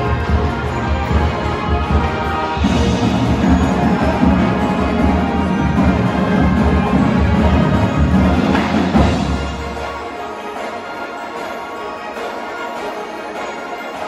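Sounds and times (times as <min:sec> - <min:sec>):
drums and percussion: 0:00.0 - 0:14.0
marching band brass: 0:00.0 - 0:14.0.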